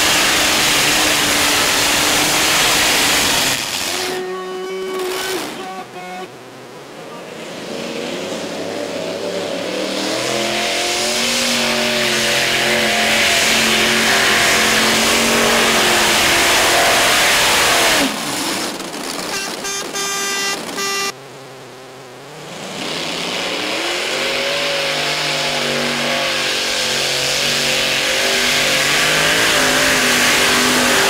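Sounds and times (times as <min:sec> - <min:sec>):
pulling tractor engines at full power: 0:00.0 - 0:31.0.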